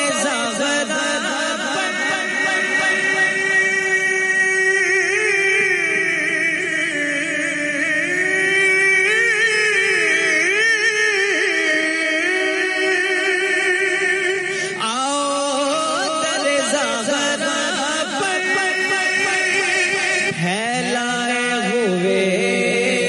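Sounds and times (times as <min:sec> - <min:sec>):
man singing devotional song: 0:00.0 - 0:23.0.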